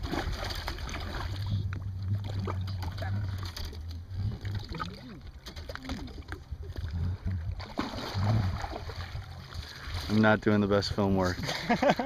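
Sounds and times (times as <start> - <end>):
fish thrashing in water: 0.0 - 10.4
low hum: 0.0 - 12.0.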